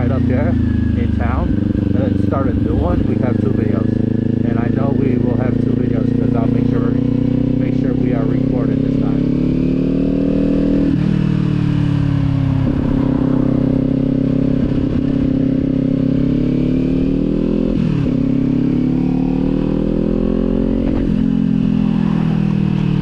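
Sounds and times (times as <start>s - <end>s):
motorcycle engine shifting gears: 0.0s - 23.0s.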